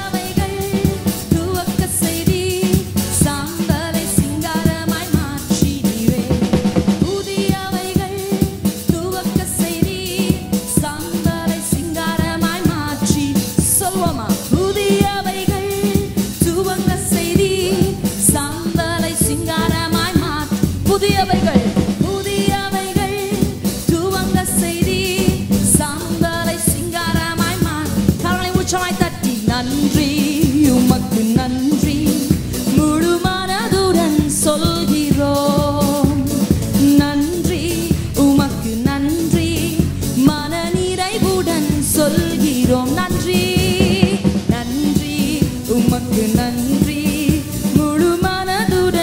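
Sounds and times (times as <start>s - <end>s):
band with steady drum beat: 0.0s - 49.0s.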